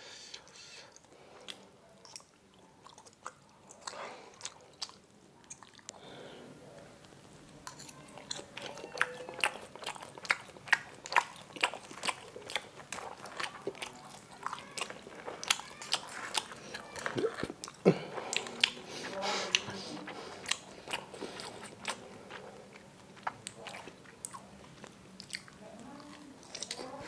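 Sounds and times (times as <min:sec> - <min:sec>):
chewing: 0:00.3 - 0:06.1, 0:07.0 - 0:27.0.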